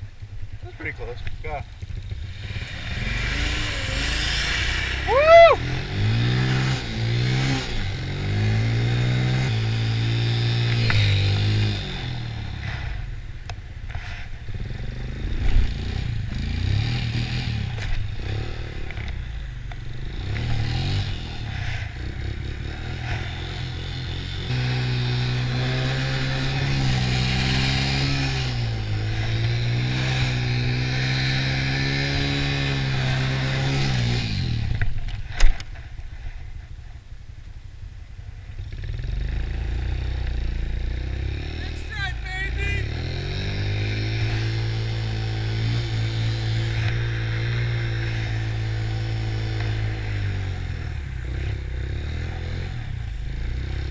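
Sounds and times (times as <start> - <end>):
quad engine revving: 2.0 - 13.0, 14.5 - 35.6, 38.6 - 53.9.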